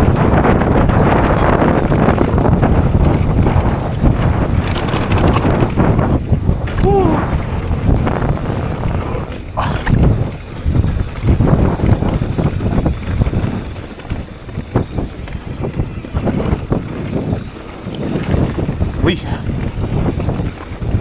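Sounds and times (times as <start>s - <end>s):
bike knocking and rattling: 0.0s - 21.0s
wind buffeting microphone: 0.0s - 21.0s.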